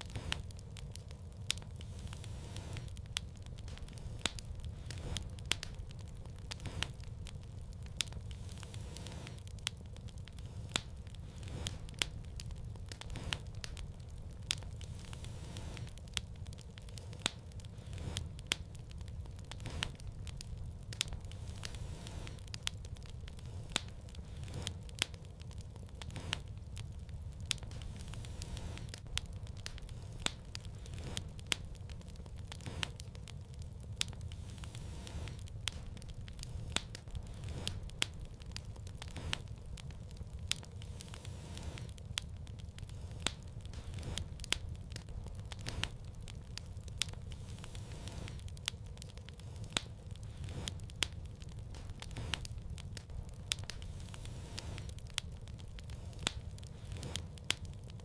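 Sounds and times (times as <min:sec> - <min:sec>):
fire crackling in fireplace: 0:00.0 - 0:58.0.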